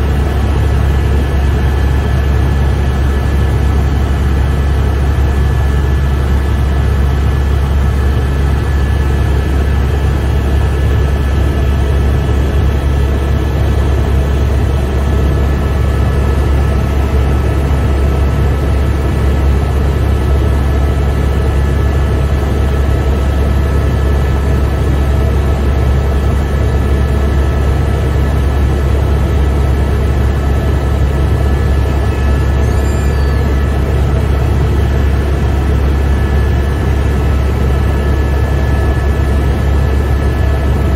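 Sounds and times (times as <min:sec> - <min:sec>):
helicopter cabin drone: 0:00.0 - 0:40.9
thin constant whine: 0:00.0 - 0:40.9.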